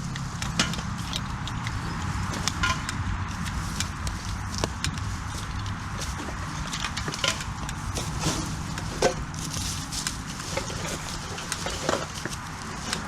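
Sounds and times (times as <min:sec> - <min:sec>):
twigs snapping underfoot: 0:00.1 - 0:13.0.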